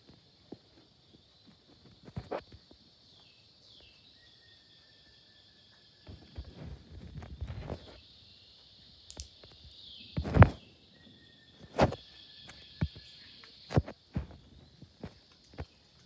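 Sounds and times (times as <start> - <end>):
night insects chorus: 0.0 - 16.0.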